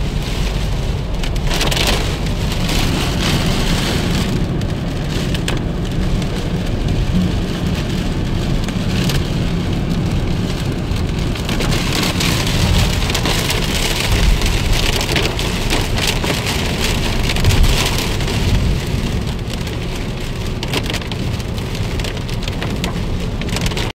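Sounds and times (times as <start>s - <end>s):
steady low rumble: 0.0s - 23.8s
heavy rain on a car: 0.0s - 23.9s.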